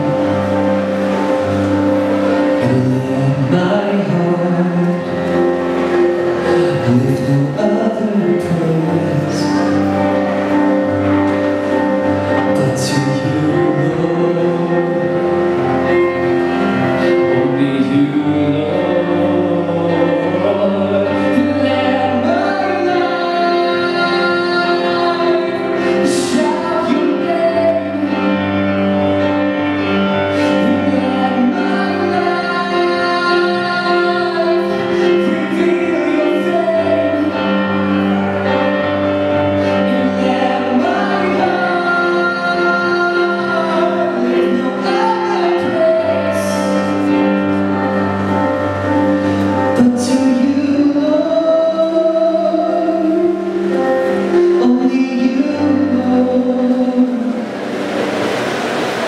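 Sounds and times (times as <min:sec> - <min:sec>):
man singing into microphone: 0:00.0 - 0:57.9
electronic keyboard chords: 0:00.0 - 0:59.0.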